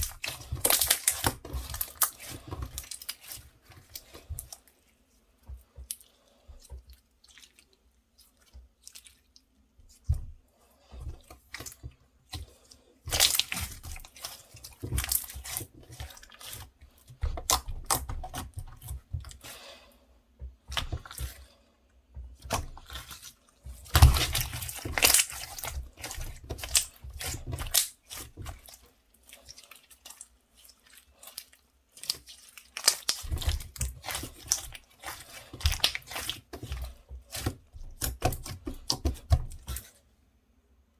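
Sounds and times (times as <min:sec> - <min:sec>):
slime squished by hand: 0:00.0 - 0:04.7, 0:05.5 - 0:19.6, 0:22.3 - 0:40.0.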